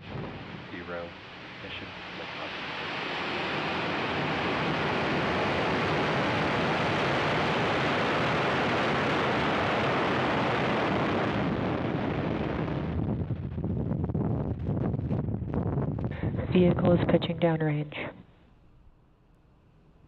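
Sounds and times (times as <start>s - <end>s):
rocket engines rumbling: 0.0s - 18.2s.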